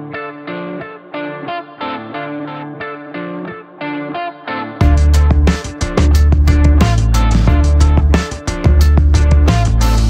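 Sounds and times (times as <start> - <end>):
guitar picking single notes: 0.0 - 10.0.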